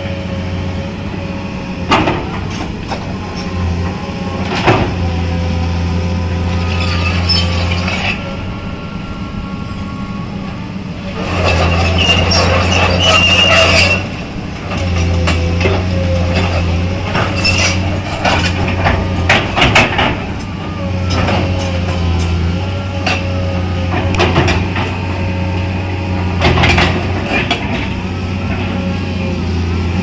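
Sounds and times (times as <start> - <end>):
diesel engine under load: 0.0 - 30.0
hydraulic whine: 0.0 - 30.0.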